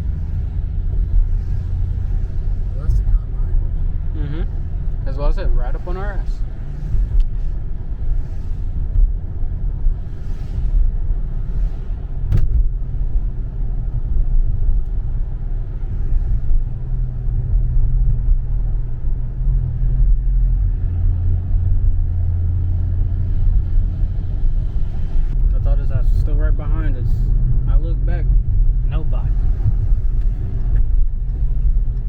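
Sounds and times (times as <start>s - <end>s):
car engine exhaust drone: 0.0s - 32.0s.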